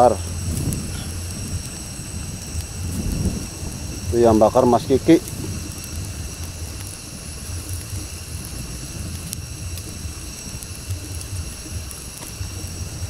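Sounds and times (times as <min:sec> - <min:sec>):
campfire crackling: 0:00.0 - 0:13.0
fire low rumble: 0:00.0 - 0:13.0
insect chorus: 0:00.0 - 0:13.0.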